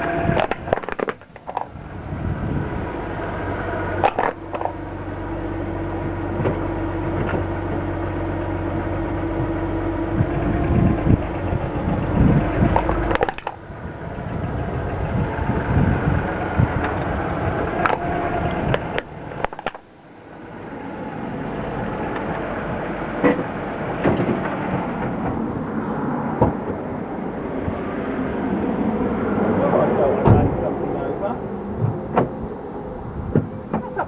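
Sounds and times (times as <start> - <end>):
car engine rumble: 0.0 - 34.0
road noise: 0.0 - 34.0.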